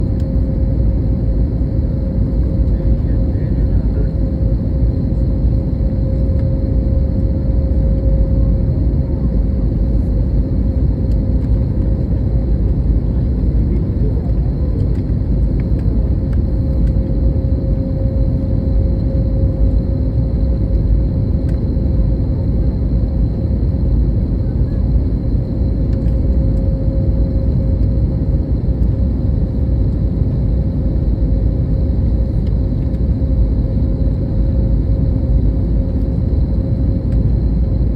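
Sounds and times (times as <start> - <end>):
jet airliner engine rumble: 0.0 - 37.9.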